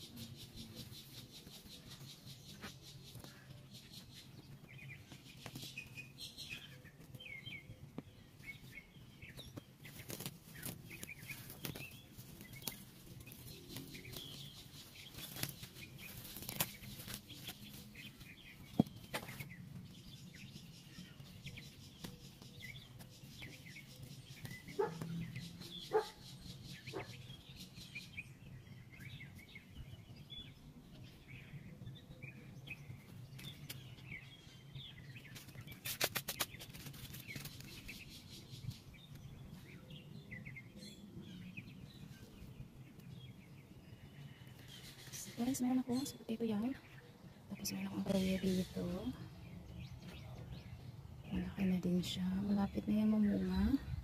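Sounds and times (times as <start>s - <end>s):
rustling and scraping in soil: 0.0s - 32.0s, 32.6s - 54.0s
small birds chirping: 0.0s - 54.0s.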